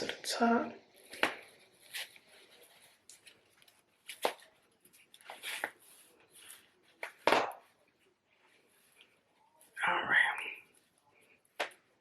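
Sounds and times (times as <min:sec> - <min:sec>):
wig cap rustling and scraping: 0:00.8 - 0:12.0.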